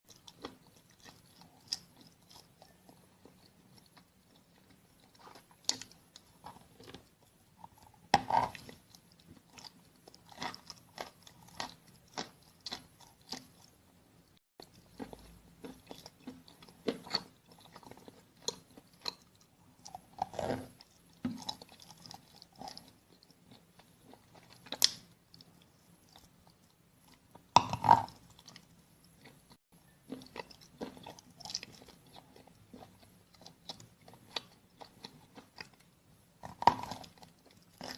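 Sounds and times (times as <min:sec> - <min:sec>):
person chewing wet clay: 0:00.1 - 0:14.0, 0:14.6 - 0:37.9.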